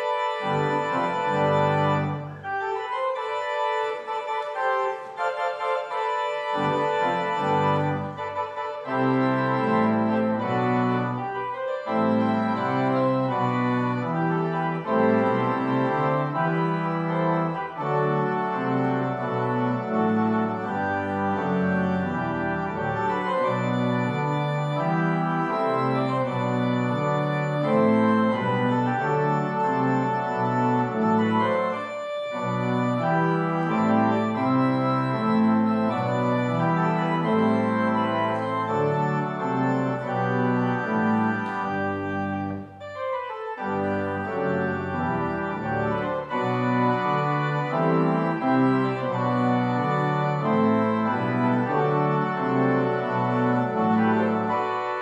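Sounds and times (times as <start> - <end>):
church organ chords: 0.0 - 55.0.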